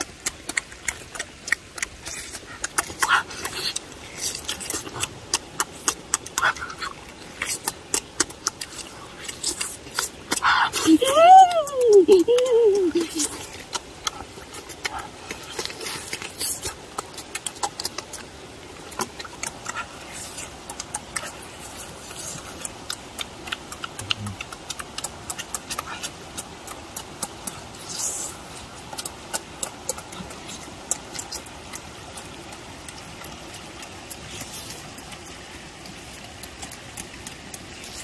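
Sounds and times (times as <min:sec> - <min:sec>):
shallow stream rushing: 0:00.0 - 0:38.0
wet chewing and lip-smacking: 0:00.0 - 0:38.0.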